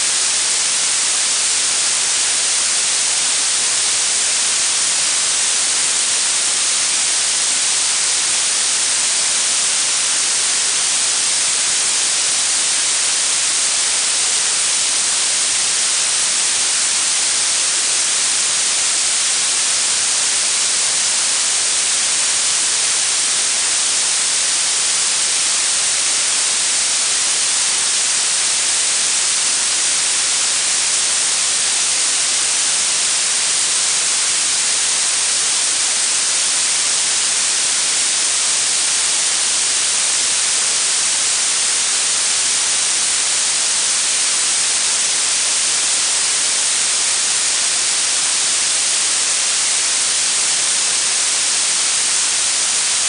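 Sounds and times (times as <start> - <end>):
steady high-pitched hiss: 0.0 - 53.0.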